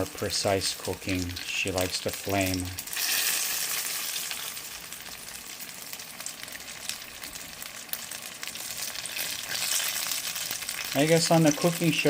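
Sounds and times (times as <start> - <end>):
spring rolls frying in oil: 0.0 - 12.0.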